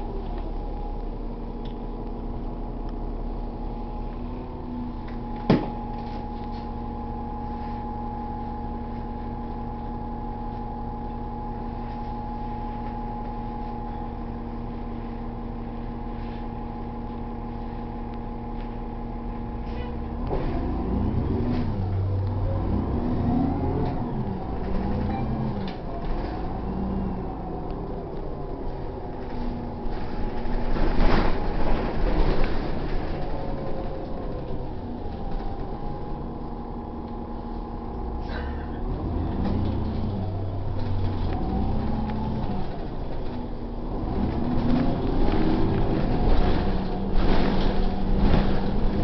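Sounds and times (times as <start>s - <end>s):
bus engine: 0.0s - 49.0s.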